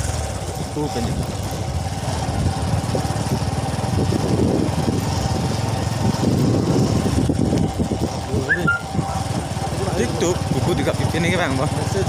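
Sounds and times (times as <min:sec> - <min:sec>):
small engine running with whine: 0:00.0 - 0:12.0.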